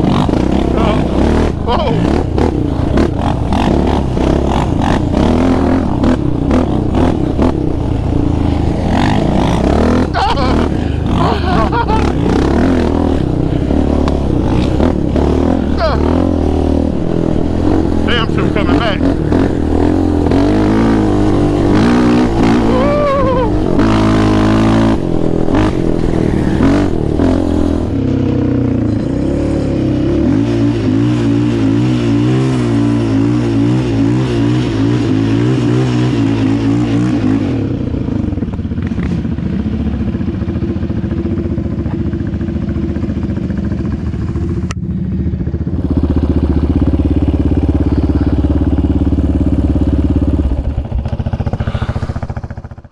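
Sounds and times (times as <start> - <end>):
quad engine revving: 0.0 - 44.7, 45.5 - 52.9.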